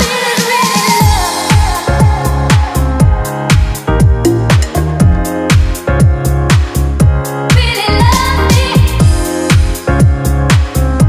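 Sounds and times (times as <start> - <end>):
electronic dance music: 0.0 - 10.9.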